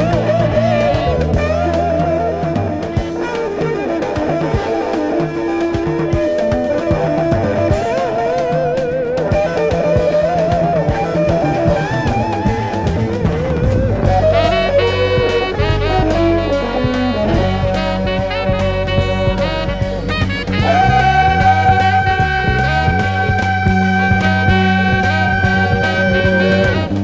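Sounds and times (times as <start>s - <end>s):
bass guitar: 0.0s - 27.0s
drums: 0.0s - 27.0s
electric guitar with vibrato: 0.0s - 27.0s
horn section: 0.0s - 27.0s.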